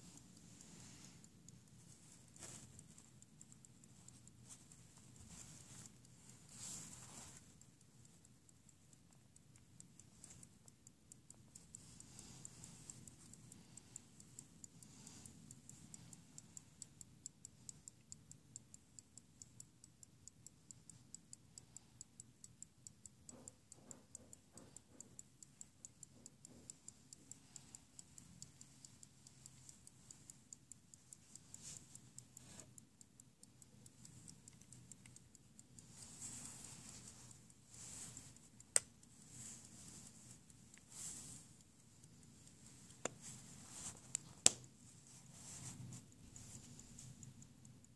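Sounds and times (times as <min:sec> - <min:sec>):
pocket watch ticking: 0:00.0 - 0:47.9.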